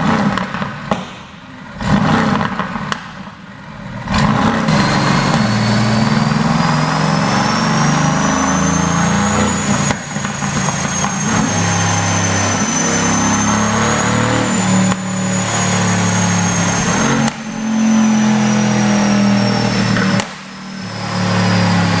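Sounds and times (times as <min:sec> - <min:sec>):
car exhaust revving: 0:00.0 - 0:22.0
sharp exhaust crack: 0:00.0 - 0:22.0.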